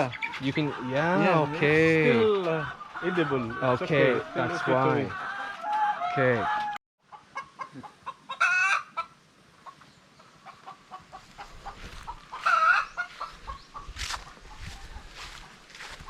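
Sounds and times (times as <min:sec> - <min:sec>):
hen drawn-out calls: 0:00.0 - 0:09.8, 0:10.4 - 0:16.0
hens clucking: 0:00.0 - 0:16.0.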